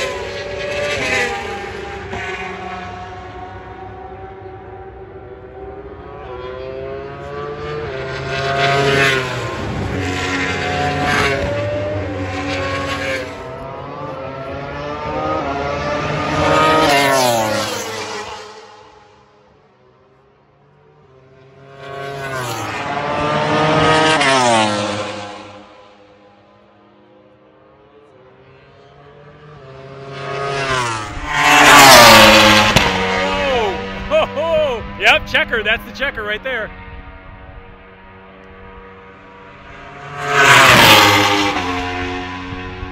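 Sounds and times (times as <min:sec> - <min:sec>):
racing engines passing by: 0:00.0 - 0:42.9.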